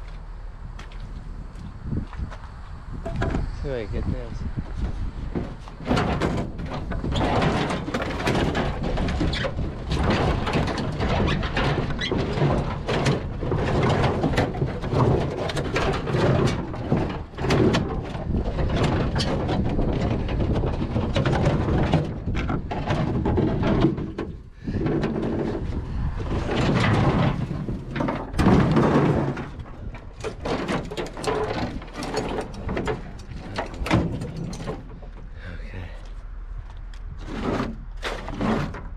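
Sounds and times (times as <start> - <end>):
scrap metal clanking and scraping: 3.0 - 38.9.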